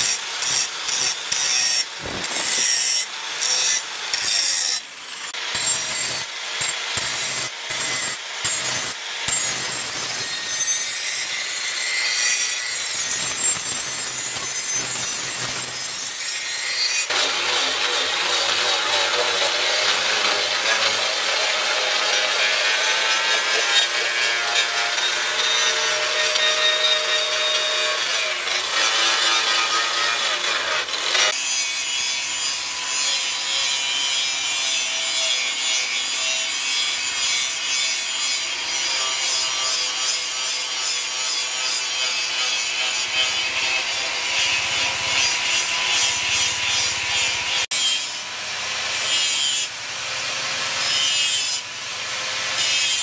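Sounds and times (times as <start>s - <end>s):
angle grinder grinding steel: 0.0s - 53.0s.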